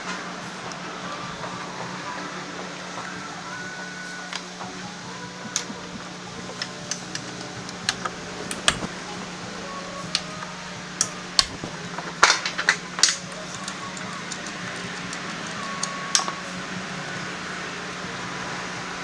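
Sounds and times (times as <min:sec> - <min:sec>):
hand tools clinking on metal: 0:00.0 - 0:19.0
steady low hum: 0:00.0 - 0:19.0.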